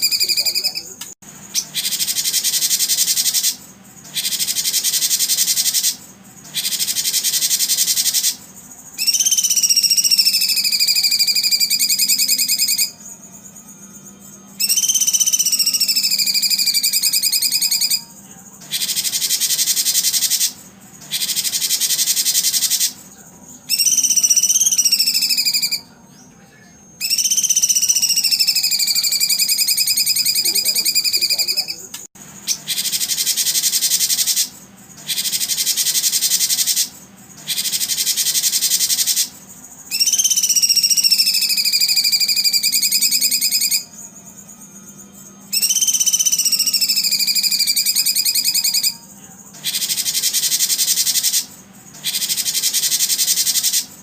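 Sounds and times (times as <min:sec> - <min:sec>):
buzzing bird trills: 0:00.0 - 0:23.1, 0:23.7 - 0:26.0, 0:27.0 - 0:54.0.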